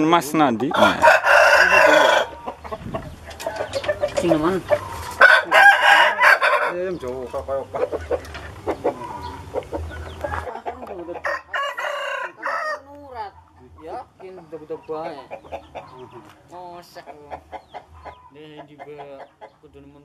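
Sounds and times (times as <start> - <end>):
chickens clucking: 0.0 - 20.0
roosters crowing: 0.5 - 19.6.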